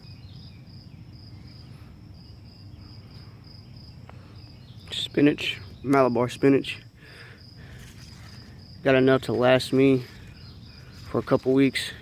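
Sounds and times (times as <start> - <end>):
insects trilling: 0.0 - 12.0
low outdoor background noise: 0.0 - 12.0.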